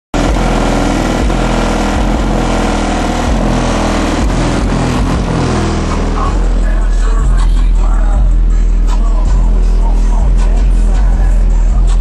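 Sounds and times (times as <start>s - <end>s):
bass-heavy music from car subwoofers: 0.2s - 12.0s.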